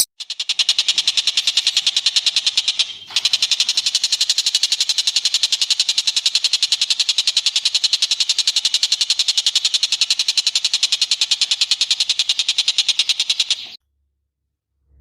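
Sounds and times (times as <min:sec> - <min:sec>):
bird trilling: 0:00.0 - 0:13.8.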